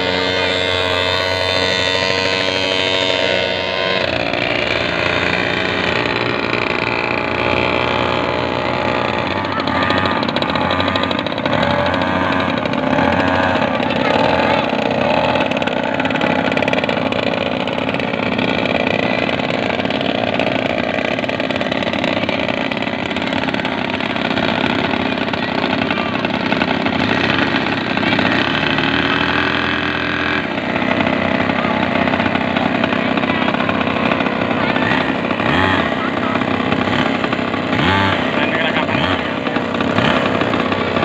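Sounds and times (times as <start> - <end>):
small model boat engine running: 0.0 - 41.0.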